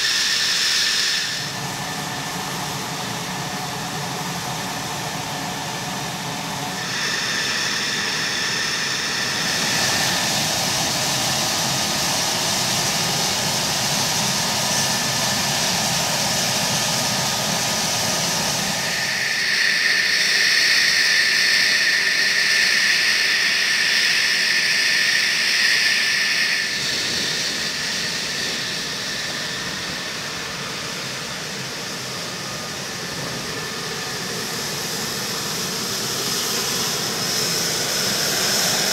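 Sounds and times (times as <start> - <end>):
jet engine idling whine: 0.0 - 38.9.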